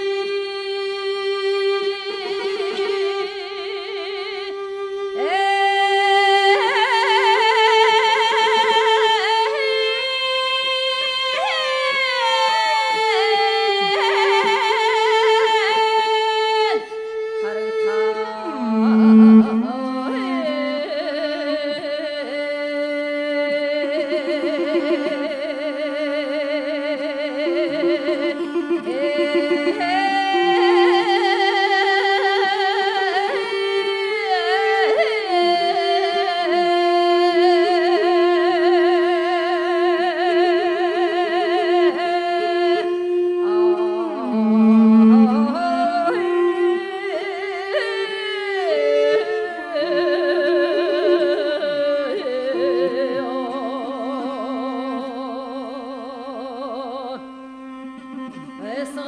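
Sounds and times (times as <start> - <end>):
bowed string instrument: 0.0 - 59.0
woman singing long notes: 0.0 - 59.0.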